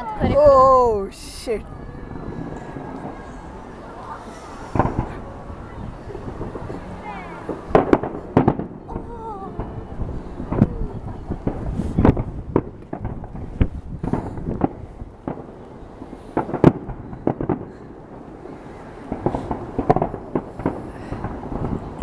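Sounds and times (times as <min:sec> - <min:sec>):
fireworks crackle: 0:00.0 - 0:22.0
fireworks booming and banging: 0:01.2 - 0:22.0.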